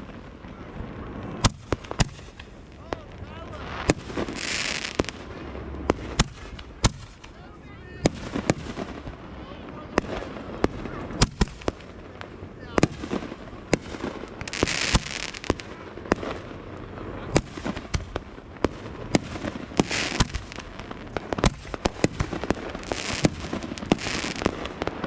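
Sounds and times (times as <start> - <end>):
fireworks hissing bursts: 0.0 - 7.4, 8.0 - 25.0
fireworks bangs: 0.0 - 25.0.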